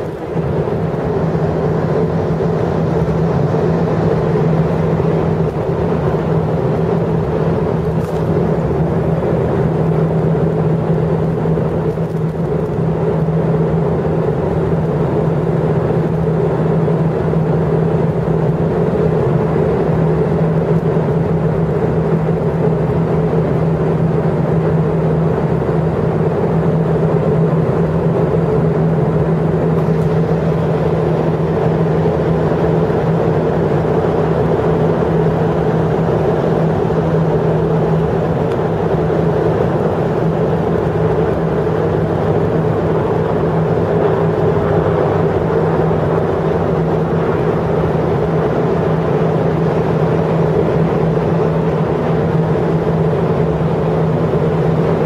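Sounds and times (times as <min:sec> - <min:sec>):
airport noise: 0:00.0 - 0:16.2, 0:27.0 - 0:55.0
constant low hum: 0:00.0 - 0:55.0
distant traffic rumble: 0:00.0 - 0:55.0.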